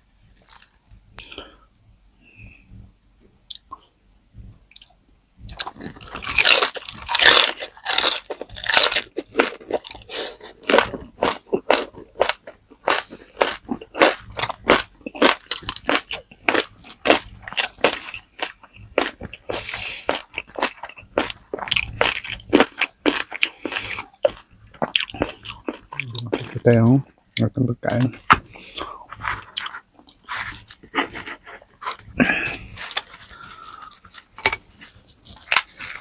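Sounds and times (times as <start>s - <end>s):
crunching and chewing crispy food: 0.4s - 1.3s, 5.5s - 36.0s.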